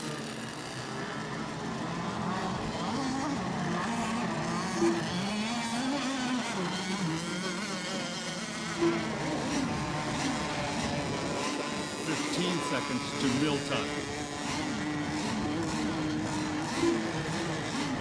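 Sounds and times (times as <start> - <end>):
model boat engines buzzing: 0.0 - 18.0.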